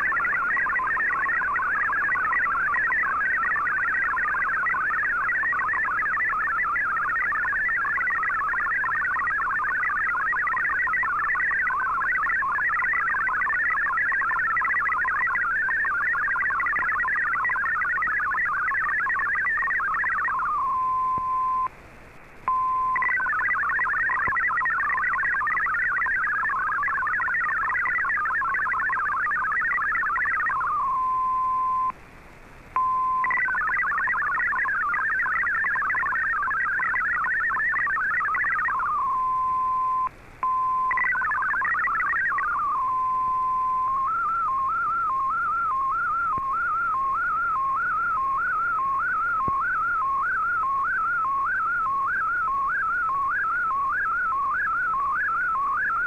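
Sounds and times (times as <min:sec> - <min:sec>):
digital data warbling tones: 0:00.0 - 0:21.7, 0:22.8 - 0:31.9, 0:32.8 - 0:56.0.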